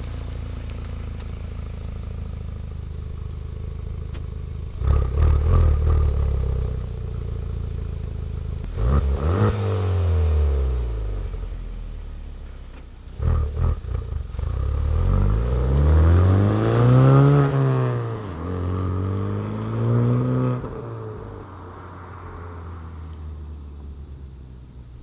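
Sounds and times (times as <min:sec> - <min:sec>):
car engine revving through exhaust: 0:00.0 - 0:25.0.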